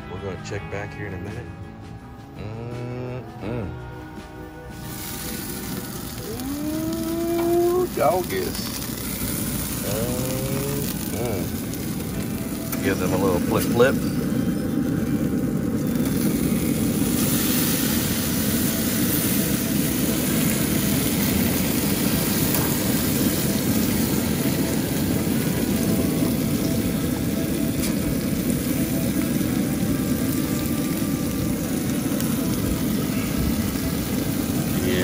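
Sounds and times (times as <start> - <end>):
steady low rumble: 4.2 - 34.8
burger patties sizzling on grill: 4.6 - 35.0.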